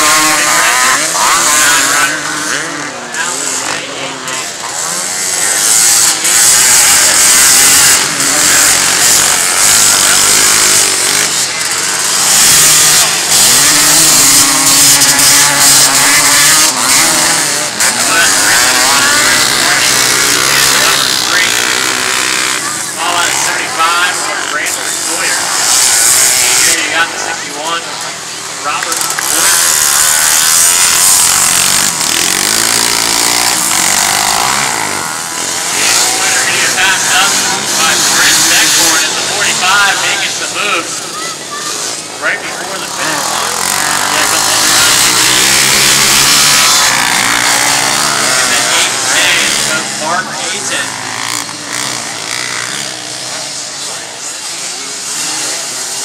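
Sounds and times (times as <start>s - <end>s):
race engines revving: 0.0s - 56.0s.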